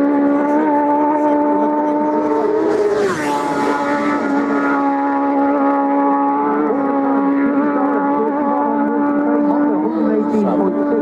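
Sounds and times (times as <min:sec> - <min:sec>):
motorcycle engines revving high: 0:00.0 - 0:11.0
motorcycle passing at speed: 0:00.0 - 0:11.0.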